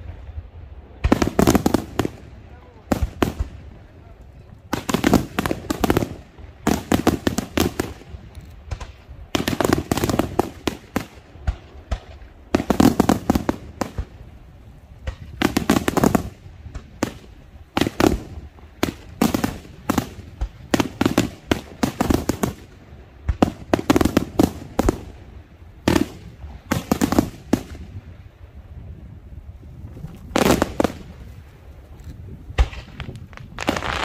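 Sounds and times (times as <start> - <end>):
fireworks bursting: 0.0 - 4.0, 4.6 - 34.0.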